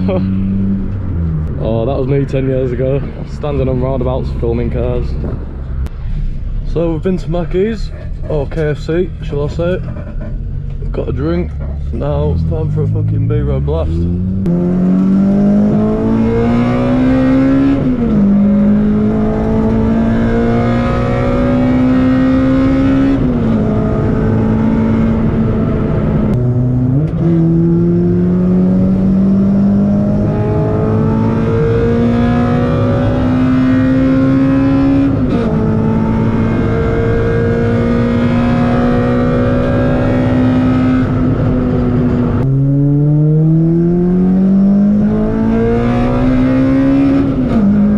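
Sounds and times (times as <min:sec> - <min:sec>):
car engine accelerating through gears: 0:00.0 - 0:07.0, 0:07.9 - 0:47.9.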